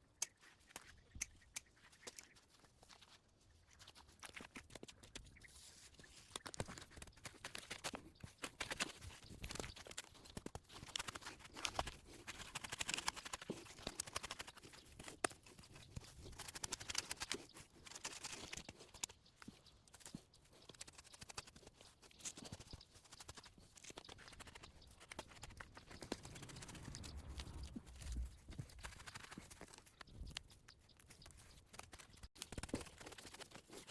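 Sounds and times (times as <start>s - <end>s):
dry grass crackling and rustling: 3.7s - 33.9s.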